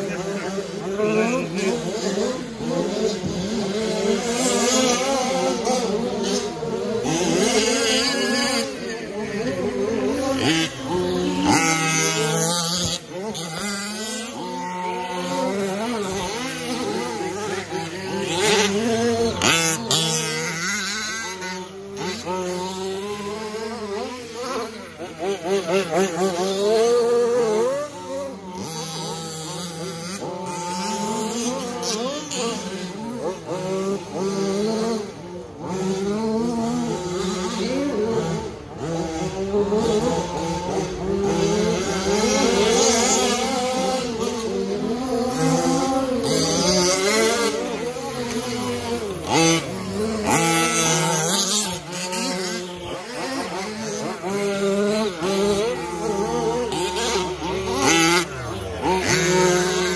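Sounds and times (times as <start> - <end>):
rc truck motors whining: 0.0 - 59.9.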